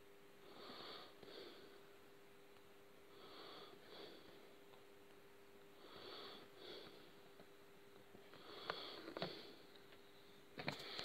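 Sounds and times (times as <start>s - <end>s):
faint hum: 0.0s - 11.0s
soft nasal breaths: 0.4s - 11.0s.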